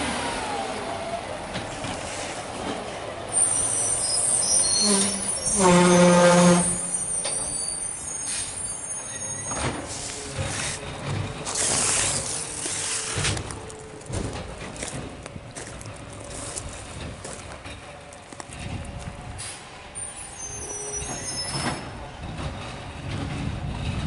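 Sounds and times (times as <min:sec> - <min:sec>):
garbage truck moving off: 0:00.0 - 0:24.0.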